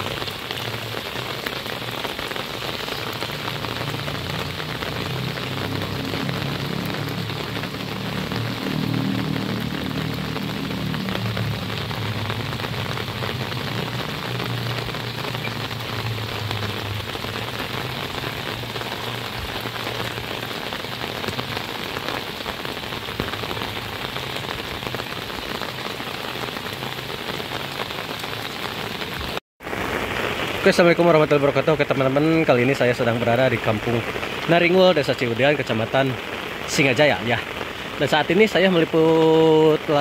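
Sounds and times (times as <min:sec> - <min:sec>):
water dripping from eaves: 0:00.0 - 0:29.4, 0:30.0 - 0:40.0
heavy rain: 0:00.0 - 0:40.0.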